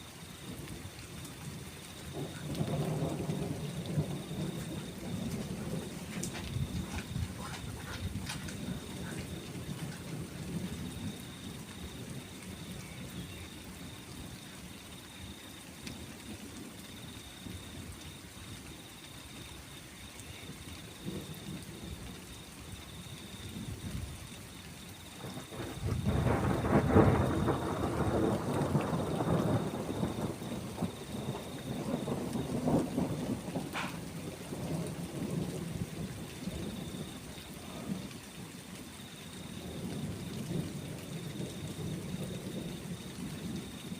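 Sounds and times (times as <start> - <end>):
thunder rumbling: 0.0 - 14.4, 20.4 - 24.2, 25.1 - 38.2, 39.4 - 43.9
steady rain: 0.0 - 43.9.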